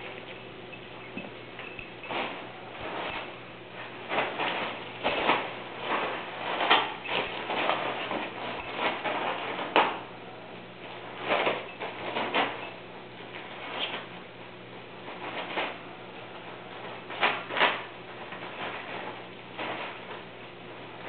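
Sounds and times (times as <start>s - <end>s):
dog rustling and scuffling: 0.0s - 10.1s, 10.8s - 21.0s.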